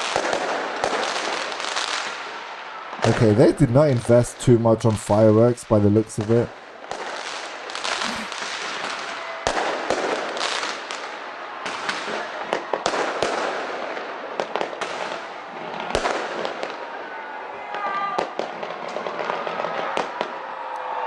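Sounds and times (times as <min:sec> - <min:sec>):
fireworks bangs: 0:00.0 - 0:20.4
fireworks crackling and hissing: 0:00.0 - 0:20.4.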